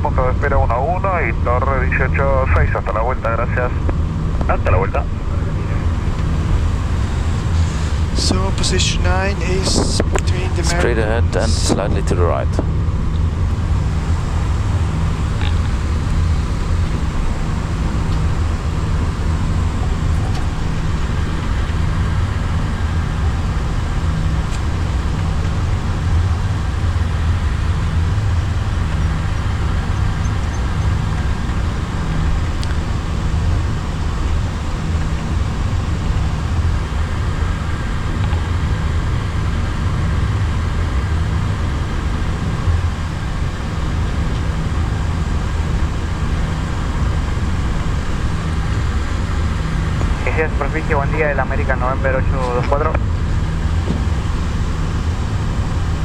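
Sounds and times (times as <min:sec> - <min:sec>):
aircraft cabin low rumble: 0:00.0 - 0:56.0.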